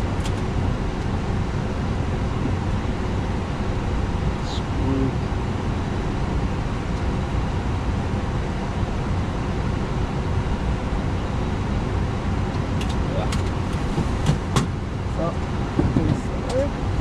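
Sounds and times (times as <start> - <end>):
airplane cockpit rushing noise: 0.0 - 17.0.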